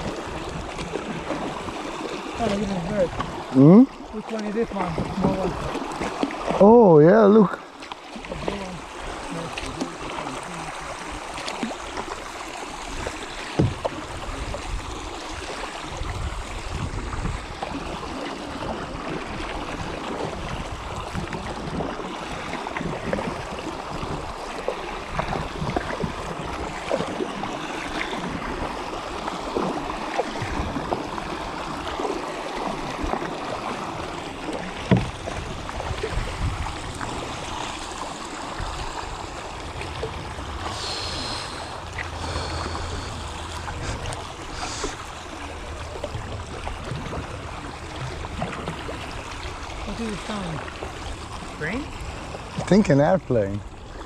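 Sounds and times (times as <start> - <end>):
paddles splashing in water: 0.0 - 54.0.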